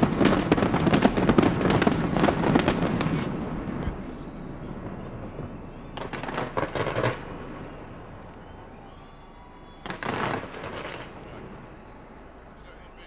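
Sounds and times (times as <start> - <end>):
fireworks bangs and crackles: 0.0 - 12.3.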